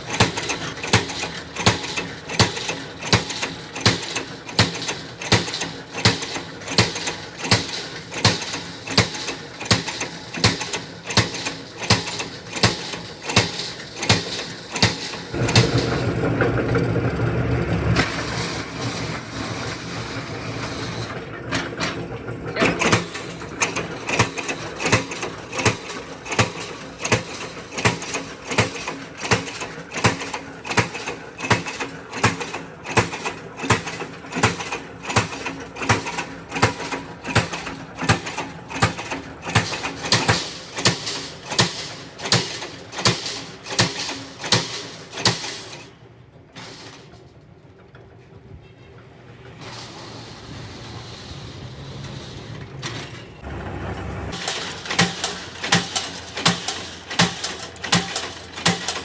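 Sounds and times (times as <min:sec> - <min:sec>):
rhythmic mechanical clicking: 0:00.0 - 0:45.9, 0:54.3 - 0:59.0.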